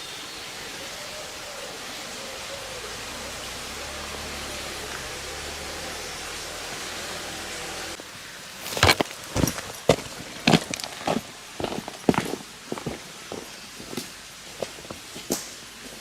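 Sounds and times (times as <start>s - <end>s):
steady rushing noise: 0.0s - 15.9s.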